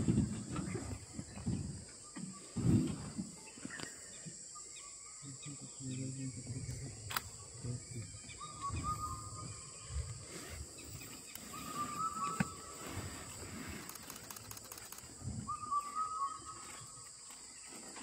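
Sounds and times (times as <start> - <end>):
forest insects droning: 0.0 - 18.0.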